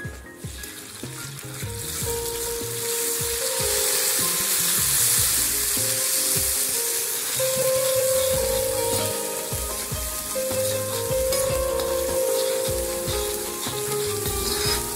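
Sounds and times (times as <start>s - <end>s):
background music: 0.0s - 14.9s
paste sizzling in hot oil: 0.6s - 14.9s.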